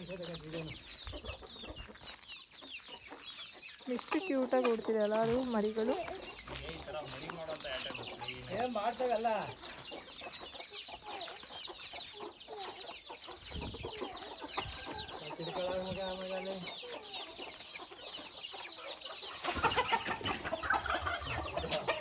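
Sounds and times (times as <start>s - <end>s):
chickens clucking: 0.0s - 22.0s
chicks peeping: 0.0s - 22.0s.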